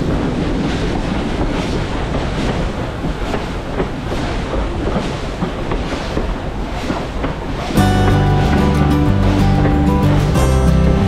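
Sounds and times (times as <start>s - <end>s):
train rumbling: 0.0s - 11.0s
wheels clacking: 0.0s - 11.0s.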